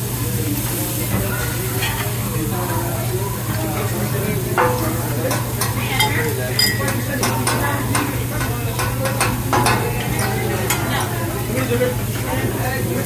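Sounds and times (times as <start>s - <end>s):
steak sizzling on griddle: 0.0s - 13.0s.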